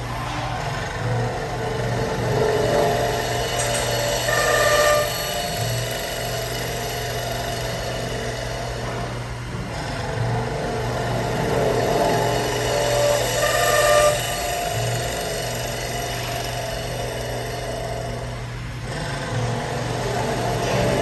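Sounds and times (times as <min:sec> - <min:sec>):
wood lathe cutting: 0:00.0 - 0:21.0.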